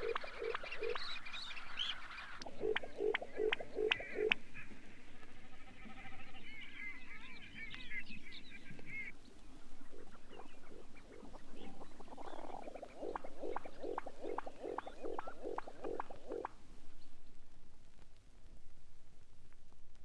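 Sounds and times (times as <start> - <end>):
higher bird calls: 0.0 - 17.1
low rhythmic bird pulses: 0.0 - 17.4.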